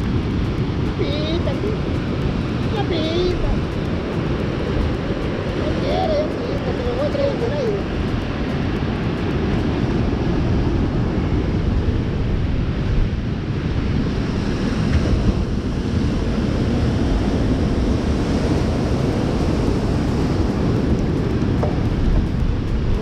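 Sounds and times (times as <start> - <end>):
surf on rocky shore: 0.0 - 23.0
wind buffeting microphone: 0.0 - 23.0.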